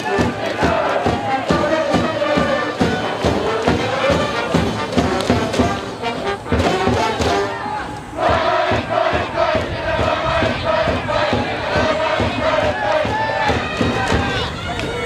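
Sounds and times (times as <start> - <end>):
brass band melody: 0.0 - 14.6
steady drum beat: 0.0 - 14.6.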